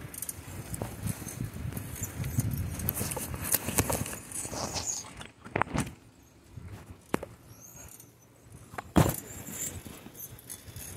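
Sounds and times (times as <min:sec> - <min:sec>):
bicycle knocks and rattles: 0:00.0 - 0:10.9
low road noise: 0:00.0 - 0:10.9.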